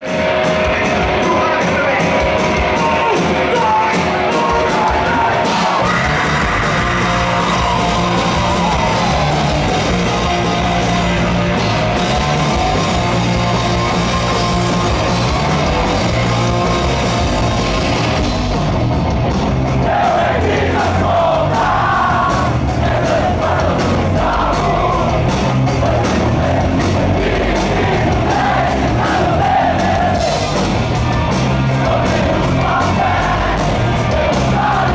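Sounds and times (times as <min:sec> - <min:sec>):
bass guitar: 0:00.0 - 0:34.9
distorted guitars: 0:00.0 - 0:34.9
fast drum beat: 0:00.0 - 0:34.9.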